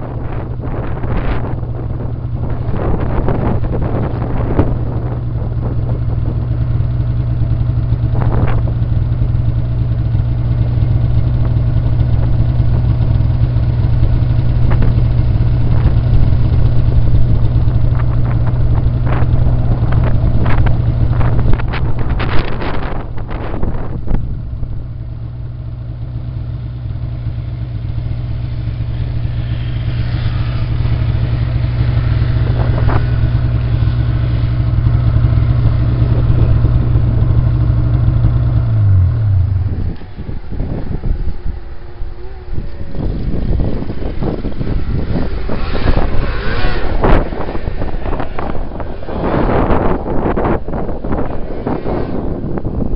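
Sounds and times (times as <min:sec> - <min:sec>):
snowmobile engine running: 0:00.0 - 0:52.9.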